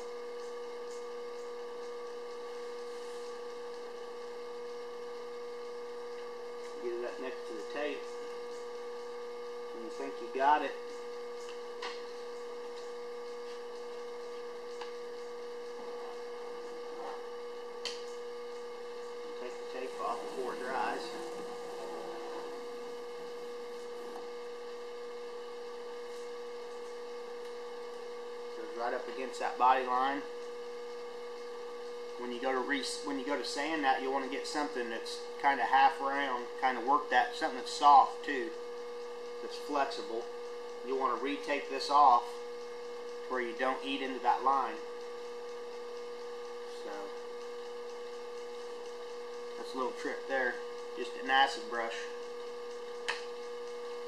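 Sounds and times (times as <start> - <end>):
steady tonal hum: 0.0 - 54.0.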